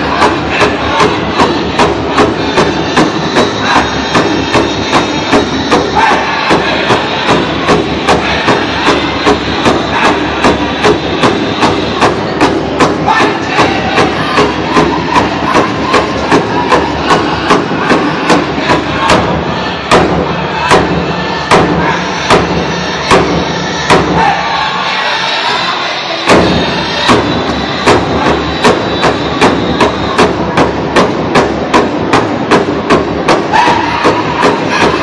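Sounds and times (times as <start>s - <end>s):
bass drum steady beat: 0.0s - 24.2s, 26.3s - 35.0s
singers' voices: 0.0s - 35.0s.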